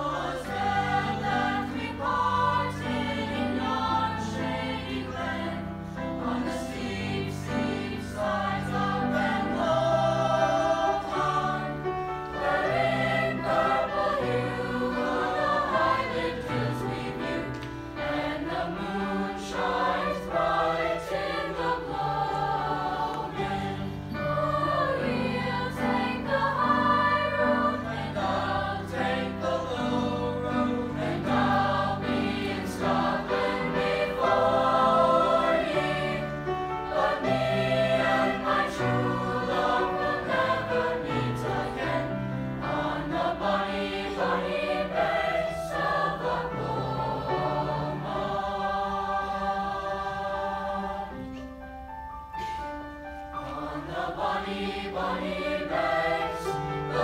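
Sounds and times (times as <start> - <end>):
choir singing in harmony: 0.0 - 57.0
piano accompaniment: 0.0 - 57.0.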